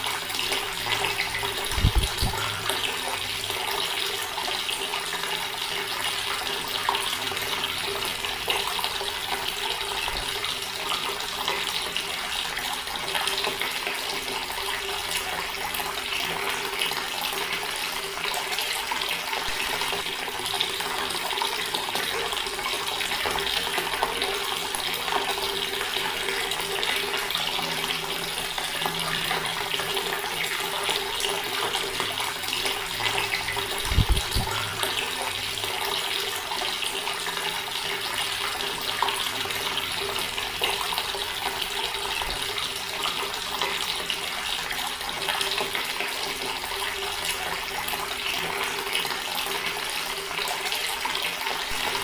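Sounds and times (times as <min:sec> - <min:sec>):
water running from a tap: 0:00.0 - 0:52.0.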